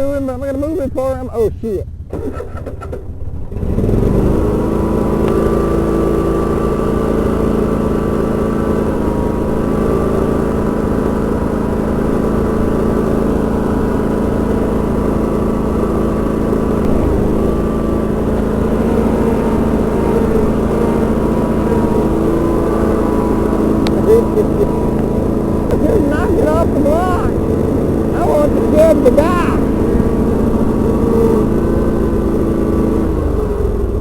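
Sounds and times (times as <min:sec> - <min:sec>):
garden tractor engine running: 0:00.0 - 0:34.0.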